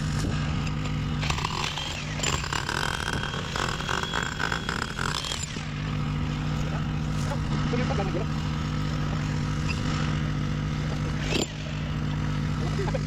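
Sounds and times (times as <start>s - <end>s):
heavy machinery engine running: 0.0s - 13.0s
steady whine: 0.0s - 13.0s.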